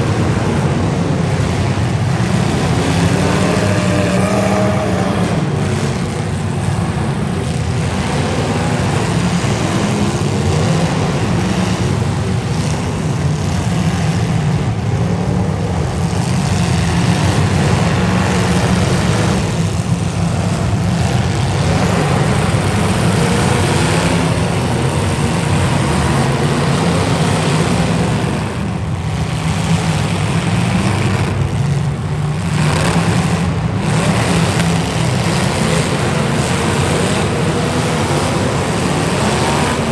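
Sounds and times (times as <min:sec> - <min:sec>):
car engines running: 0:00.0 - 0:39.9.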